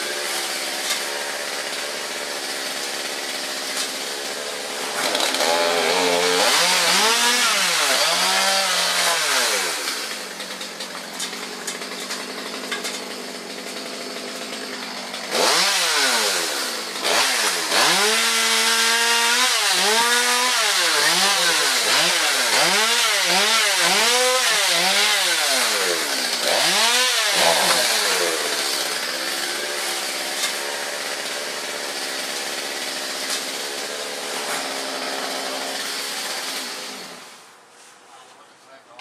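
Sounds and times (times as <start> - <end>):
chainsaw engine revving and idling: 0.0 - 37.4.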